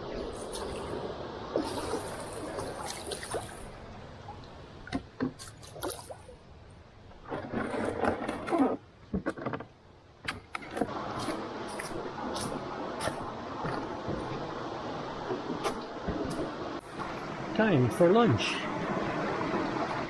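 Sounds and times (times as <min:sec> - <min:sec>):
water splashing and trickling: 0:00.0 - 0:09.6, 0:10.7 - 0:20.0.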